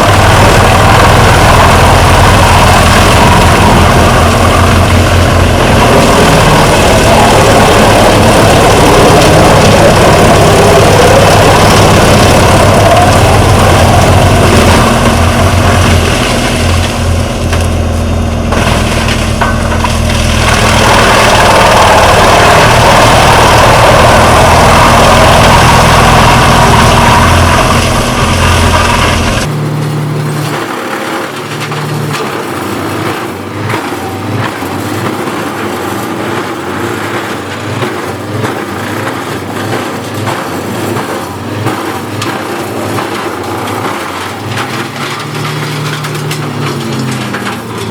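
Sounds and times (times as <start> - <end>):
quieter machine running: 0.0 - 47.9
wood chipper engine drone: 0.0 - 47.9.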